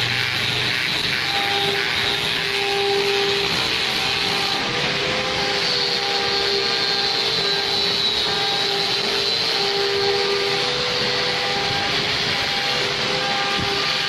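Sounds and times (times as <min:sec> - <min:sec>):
sawmill machinery running: 0:00.0 - 0:14.0.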